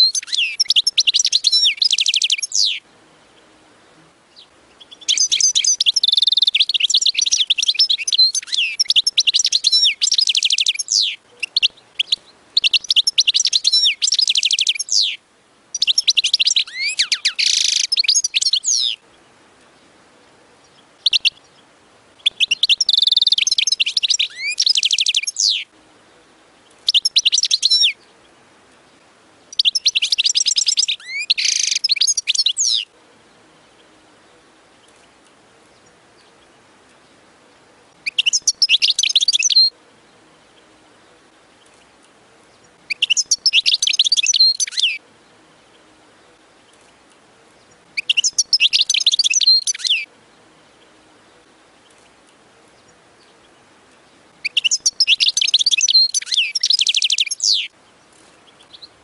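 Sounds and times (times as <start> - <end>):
goldfinch twittering song: 0.0 - 25.7, 26.6 - 47.0, 47.6 - 59.0.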